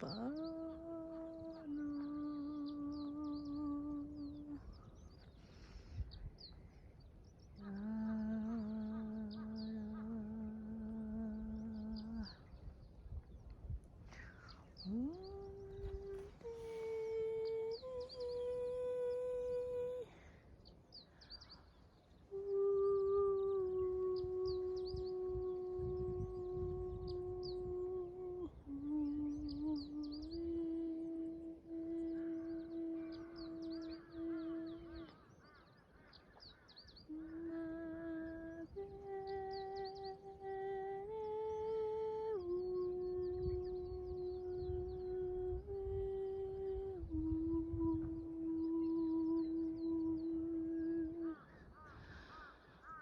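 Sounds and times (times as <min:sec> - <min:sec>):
steady humming tone: 0:00.0 - 0:05.3, 0:07.4 - 0:20.4, 0:22.2 - 0:53.0
small birds chirping: 0:00.0 - 0:53.0.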